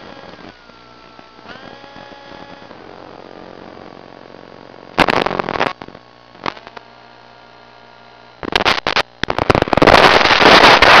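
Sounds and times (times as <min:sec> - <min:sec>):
loud hissing static: 0:00.0 - 0:11.0
radio static crackling: 0:00.0 - 0:11.0
steady hum: 0:00.0 - 0:11.0.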